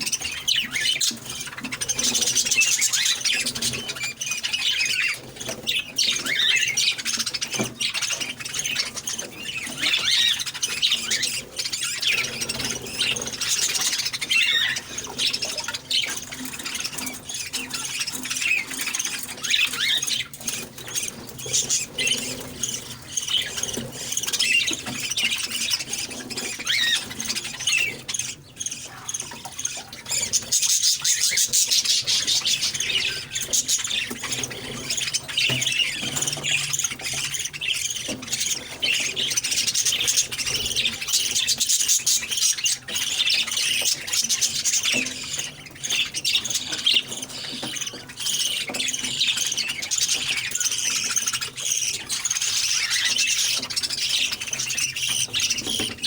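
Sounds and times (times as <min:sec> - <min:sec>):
parrots chirping and chattering: 0:00.0 - 0:56.0.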